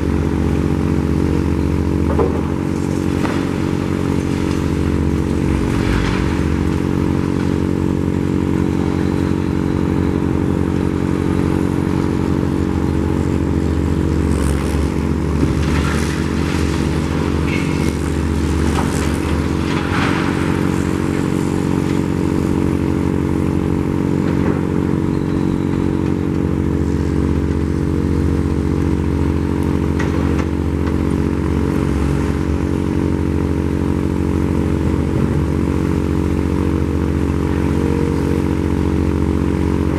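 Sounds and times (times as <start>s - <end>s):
diesel engine running under load: 0.0s - 39.9s
falling concrete debris clatter: 1.8s - 39.9s.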